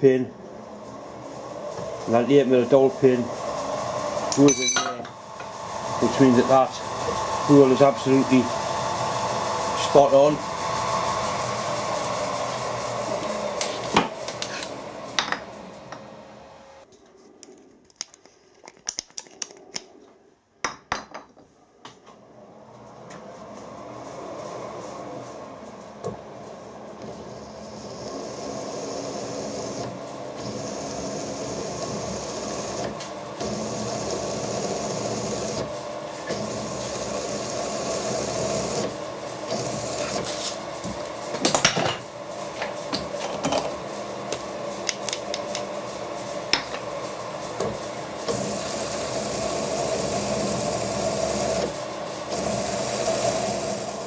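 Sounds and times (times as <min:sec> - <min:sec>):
milling machine hum: 0:00.0 - 0:16.9, 0:22.2 - 0:54.0.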